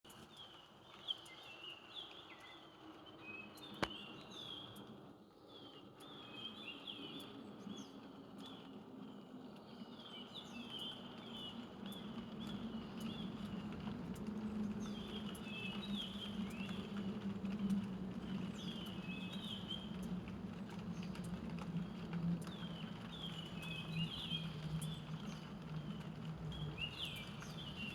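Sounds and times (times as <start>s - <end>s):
steady rain: 0.1s - 27.9s.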